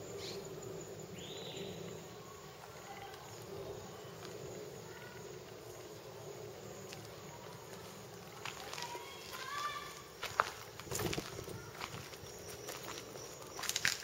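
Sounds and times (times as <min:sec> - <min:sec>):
birds: 0:00.0 - 0:14.0
insects: 0:00.0 - 0:14.0.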